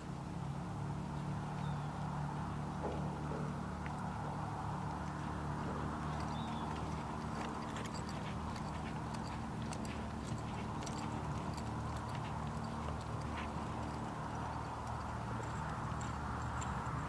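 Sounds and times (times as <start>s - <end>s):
horse hooves clicking: 0.0s - 17.0s.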